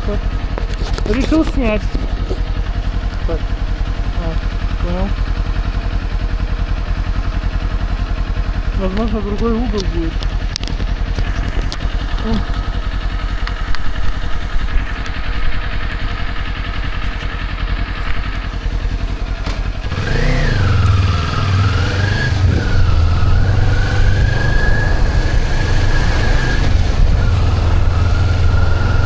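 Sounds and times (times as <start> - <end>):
motorcycle engine rumbling and revving: 0.0 - 29.0.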